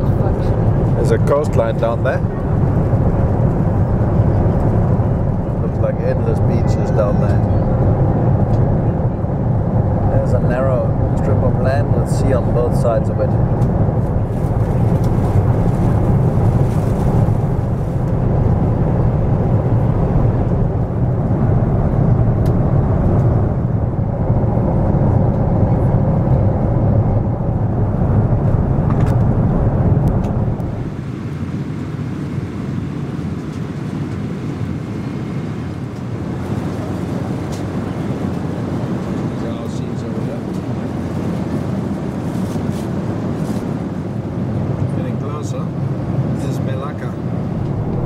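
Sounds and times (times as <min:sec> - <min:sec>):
airplane cabin engine roar: 0:00.0 - 0:48.0.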